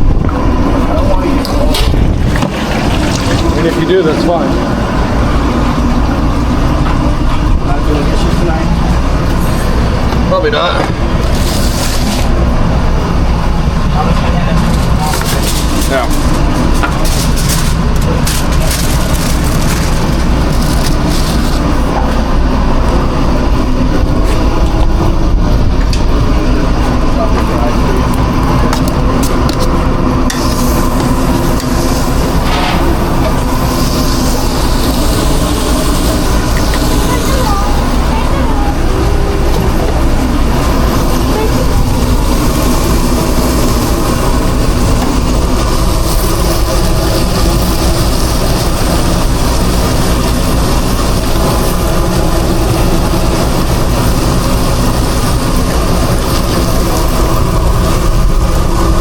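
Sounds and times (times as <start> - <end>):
low mechanical drone of equipment: 0.0 - 59.0.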